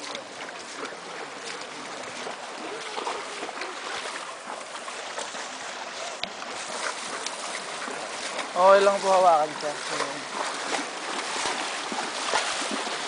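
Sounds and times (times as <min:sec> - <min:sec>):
rushing churned water: 0:00.0 - 0:13.0
small water splashes: 0:00.0 - 0:13.0.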